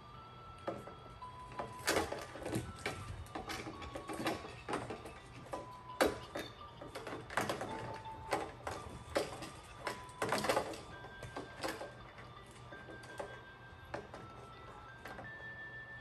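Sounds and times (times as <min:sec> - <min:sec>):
puppies scampering with toys: 0:01.4 - 0:15.2.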